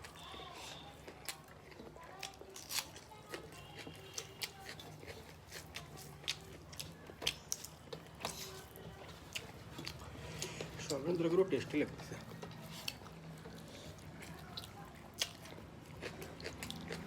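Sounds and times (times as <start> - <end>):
chewing and lip smacks: 0.0 - 17.0.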